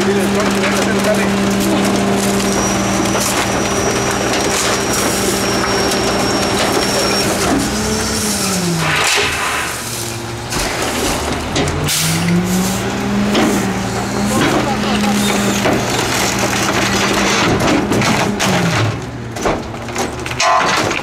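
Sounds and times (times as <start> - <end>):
diesel engine at raised revs: 0.0 - 20.4
trash cracking and crunching: 0.0 - 21.0.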